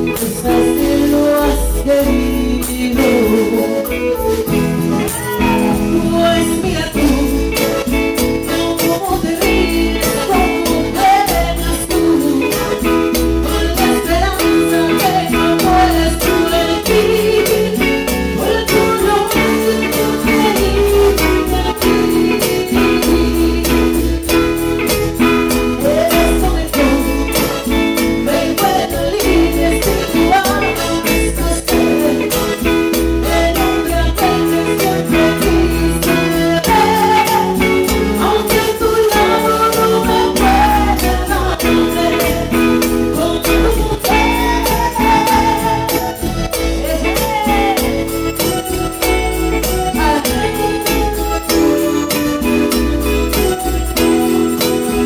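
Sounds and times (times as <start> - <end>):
bass: 0.0 - 55.0
jingling shakers: 0.0 - 55.0
keyboard chords: 0.0 - 55.0
live band playing: 0.0 - 55.0
melodic lead instrument: 0.0 - 55.0
percussion beat: 0.0 - 55.0.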